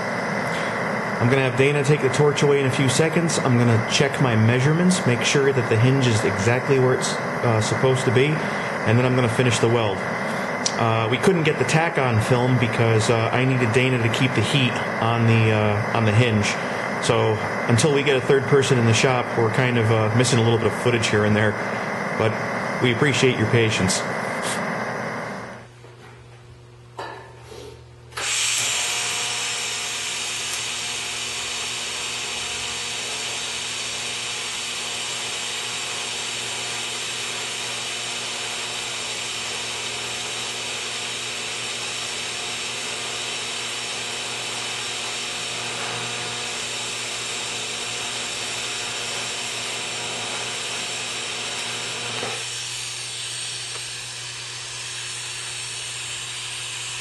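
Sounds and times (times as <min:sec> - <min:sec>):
shielding gas hissing: 0:00.0 - 0:25.7, 0:28.2 - 0:57.0
welding arc buzzing hiss: 0:00.0 - 0:25.8, 0:28.1 - 0:57.0.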